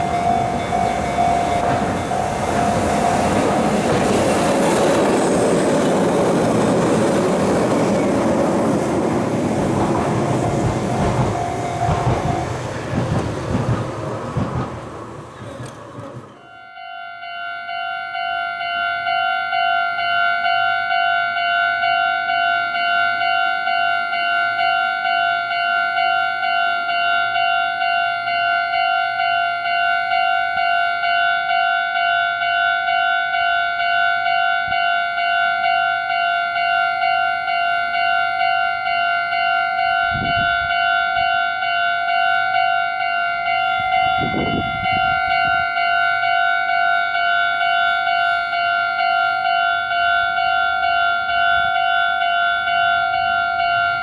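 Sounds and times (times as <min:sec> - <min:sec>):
level crossing warning bell ringing: 0:00.0 - 0:54.0.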